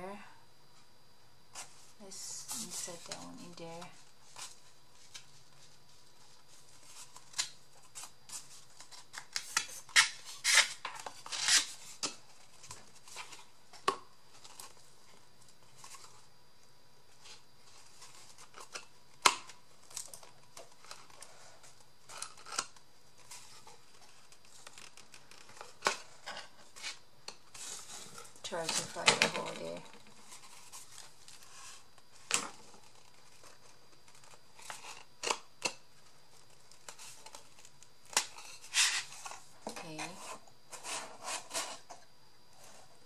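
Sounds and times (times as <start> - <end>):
paper and cardboard rustling: 1.5 - 16.3, 17.1 - 35.3, 36.0 - 42.0.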